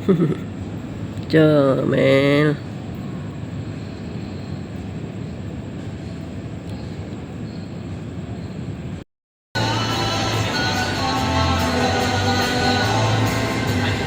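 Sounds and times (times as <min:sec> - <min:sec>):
continuous hum of noise: 0:00.0 - 0:09.0, 0:09.6 - 0:14.0.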